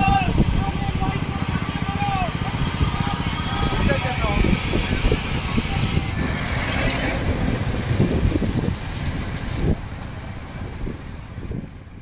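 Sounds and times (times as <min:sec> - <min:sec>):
motorcycles rumbling: 0:00.0 - 0:12.0.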